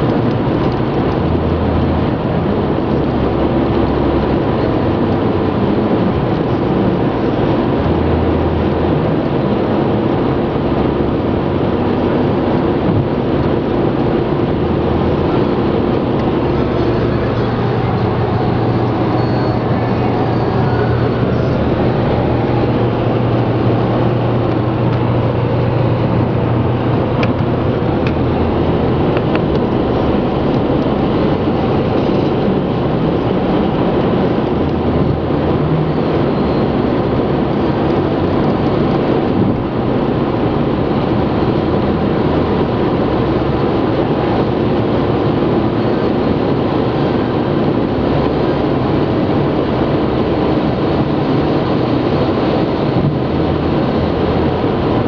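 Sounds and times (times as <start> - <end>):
car engine running: 0.0 - 55.0
tyres humming on road: 0.0 - 55.0.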